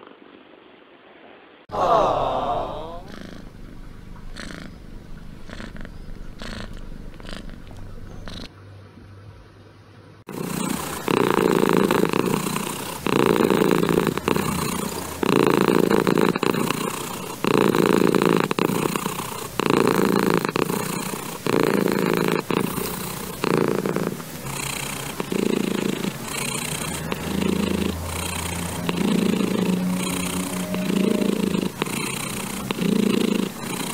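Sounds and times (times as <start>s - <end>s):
cat purring: 2.7s - 8.5s, 10.2s - 33.9s.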